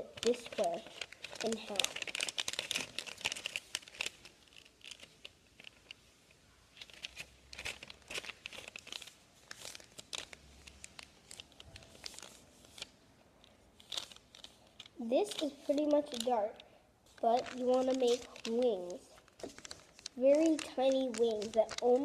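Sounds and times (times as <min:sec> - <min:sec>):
paper folding and crinkling: 0:00.0 - 0:22.0.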